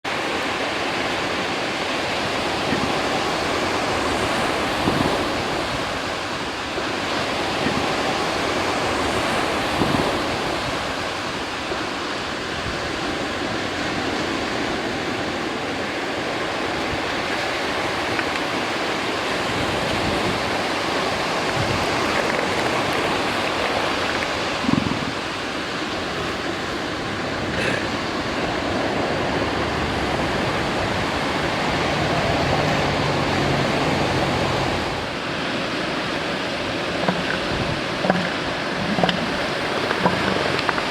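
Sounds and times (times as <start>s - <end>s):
ocean surf washing on beach: 0.0s - 40.9s
wind on microphone: 0.1s - 40.9s.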